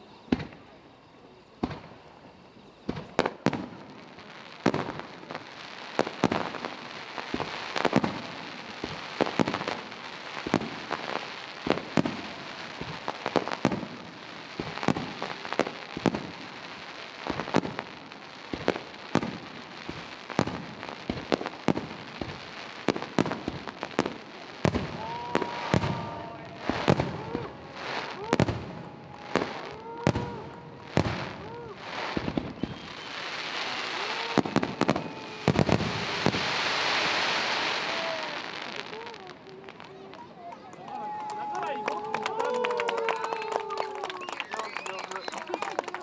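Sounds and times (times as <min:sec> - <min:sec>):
firework crackling: 0:00.0 - 0:46.0
firework bangs and pops: 0:00.2 - 0:00.8, 0:01.5 - 0:02.2, 0:02.8 - 0:46.0.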